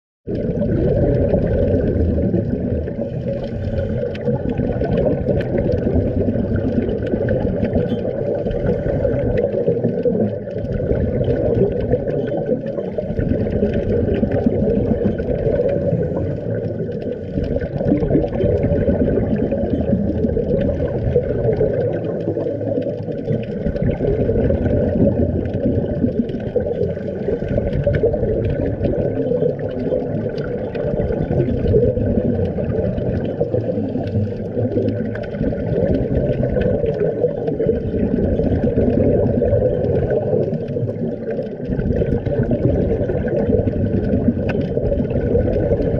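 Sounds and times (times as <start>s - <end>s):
exhaled air bubbling: 0.2s - 45.9s
muffled underwater rush: 0.2s - 45.9s.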